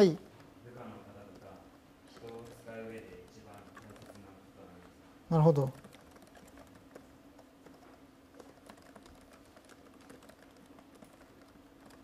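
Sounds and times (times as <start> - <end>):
laptop keyboard typing: 0.0 - 12.0.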